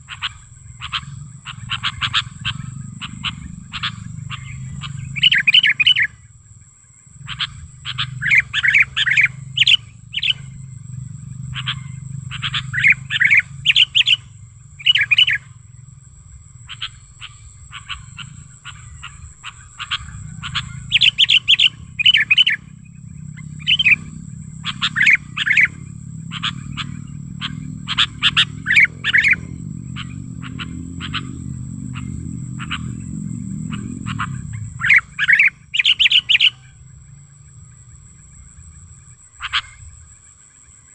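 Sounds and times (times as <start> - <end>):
bird chirping: 0.0 - 40.9
low hum: 0.0 - 40.9
steady high whine: 0.0 - 40.9.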